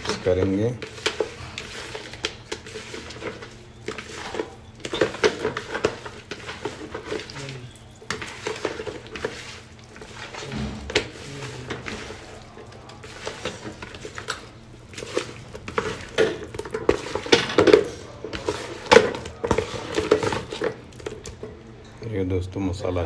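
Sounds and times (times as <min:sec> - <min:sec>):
wet squishing of hands mixing: 0:00.0 - 0:23.0.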